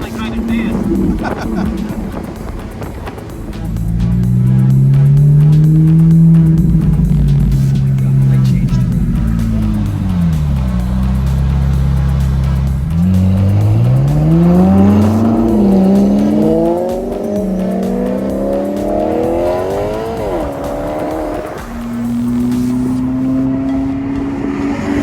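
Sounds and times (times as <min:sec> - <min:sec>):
car engine accelerating through gears: 0:00.0 - 0:25.0.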